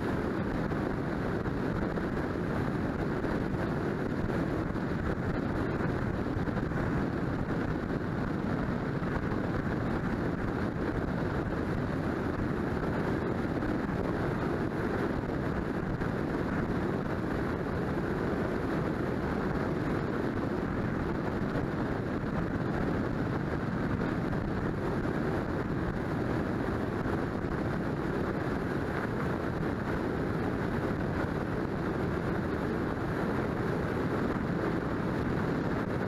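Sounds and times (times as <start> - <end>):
wind and tyre noise: 0.0 - 36.0.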